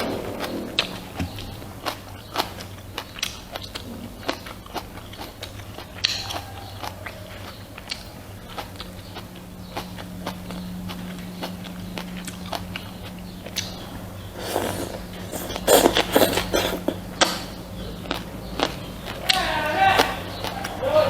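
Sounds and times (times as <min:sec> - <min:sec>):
chewing and mouth smacking: 0:00.0 - 0:20.8
steady low hum: 0:00.0 - 0:21.0.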